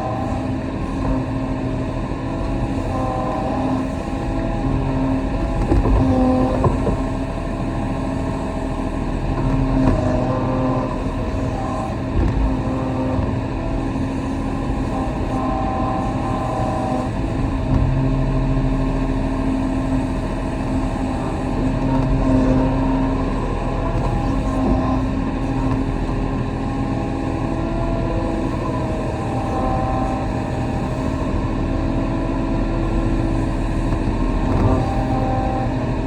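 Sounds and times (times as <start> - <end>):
excavator diesel engine running: 0.0 - 36.0
hydraulic whine: 0.0 - 36.0.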